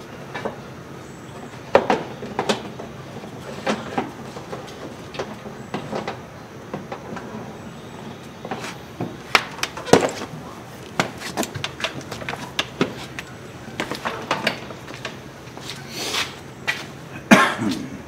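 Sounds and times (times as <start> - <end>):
rustle and clatter: 0.0 - 17.8.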